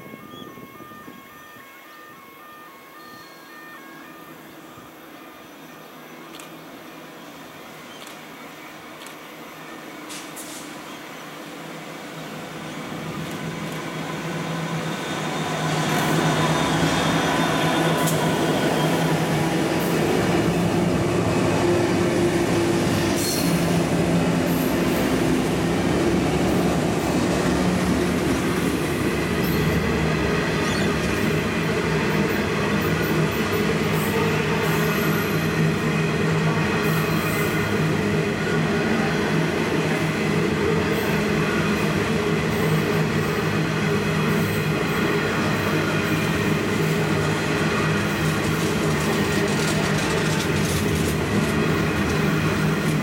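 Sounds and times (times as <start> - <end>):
diesel locomotives passing: 0.0 - 53.0
train wheels running on rails: 5.8 - 53.0.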